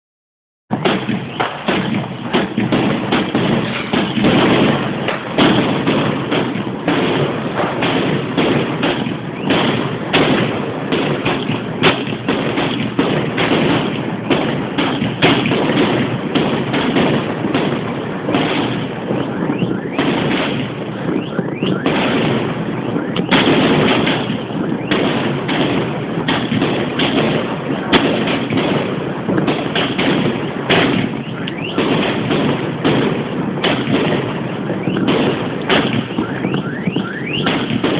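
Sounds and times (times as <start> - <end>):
fireworks bangs and crackling: 0.7 - 37.9.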